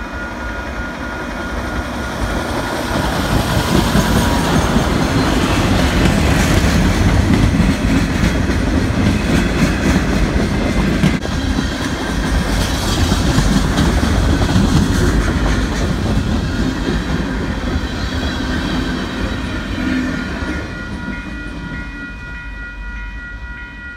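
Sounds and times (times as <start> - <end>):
train wheels rumbling and clicking: 0.0 - 22.0.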